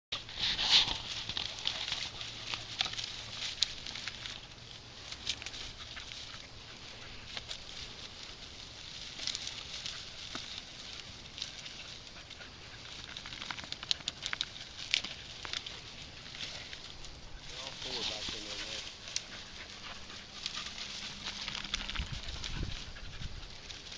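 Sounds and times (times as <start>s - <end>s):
dry grass rustling and crackling: 0.1s - 23.9s.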